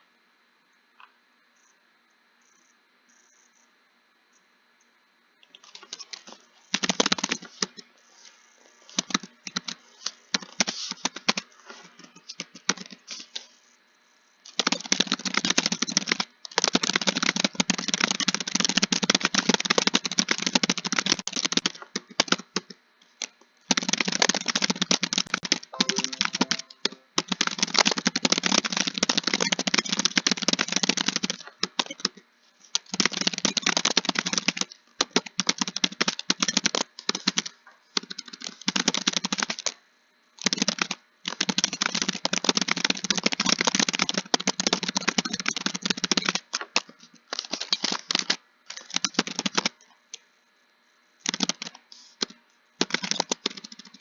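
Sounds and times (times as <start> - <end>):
fast typing on keyboard: 5.7 - 7.8, 8.8 - 13.4, 14.5 - 39.8, 40.4 - 49.8, 51.2 - 54.0.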